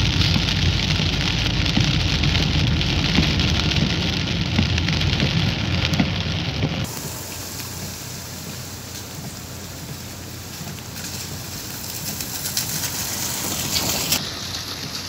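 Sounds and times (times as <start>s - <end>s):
rain hissing: 0.0s - 15.0s
raindrops tapping: 0.0s - 15.0s.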